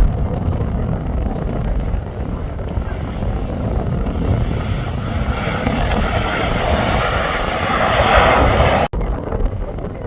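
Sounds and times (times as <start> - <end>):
low rumble: 0.0 - 9.6
airliner engine rushing: 0.3 - 8.9.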